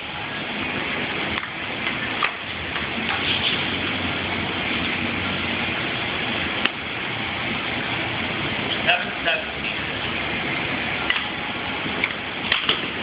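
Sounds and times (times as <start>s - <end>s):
steady background rumble: 0.0s - 13.0s.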